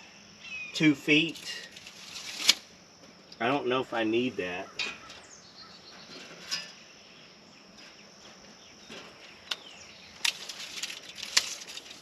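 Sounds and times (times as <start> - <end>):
insects: 0.0 - 12.0.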